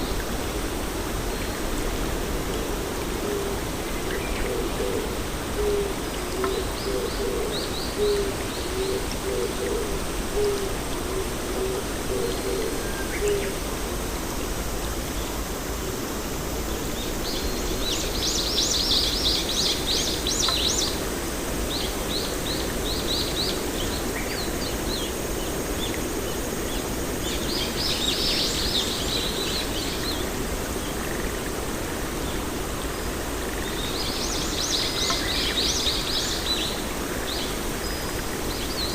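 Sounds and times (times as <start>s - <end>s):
outdoor noise hiss: 0.0s - 38.9s
songbirds chirping: 0.0s - 38.9s.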